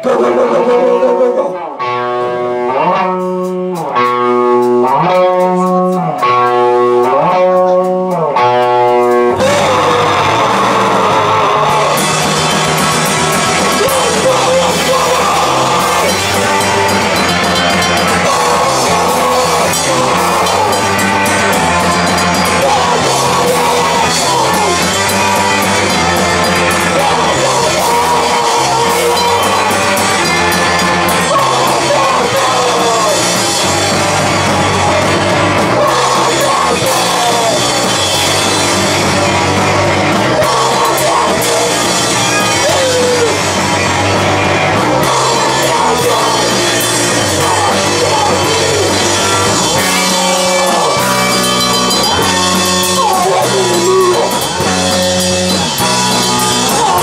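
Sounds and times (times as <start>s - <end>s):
electric guitars: 0.0s - 57.0s
drum kit with cymbals: 3.0s - 57.0s.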